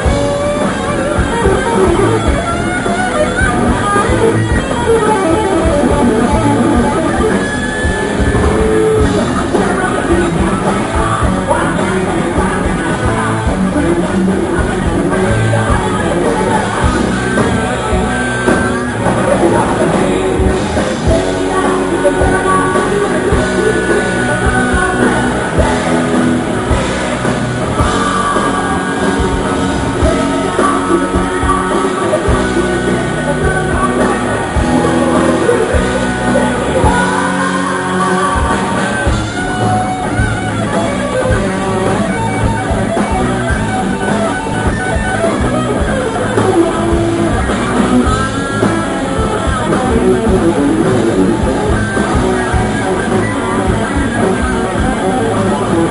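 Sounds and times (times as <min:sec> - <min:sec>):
drum kit: 0:00.0 - 0:55.9
electric guitars: 0:00.0 - 0:55.9.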